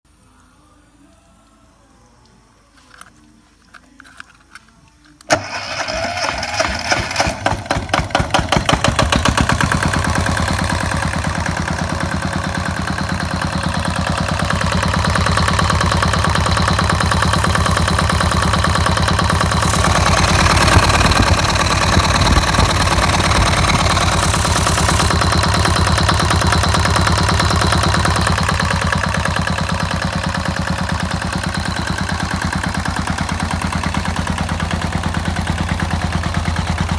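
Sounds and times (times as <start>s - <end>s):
diesel engine starting and running: 5.2s - 36.9s.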